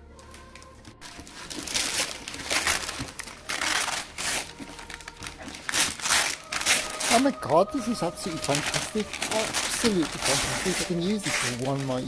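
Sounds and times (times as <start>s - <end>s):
wrapping paper tearing and crumpling: 0.3s - 12.0s.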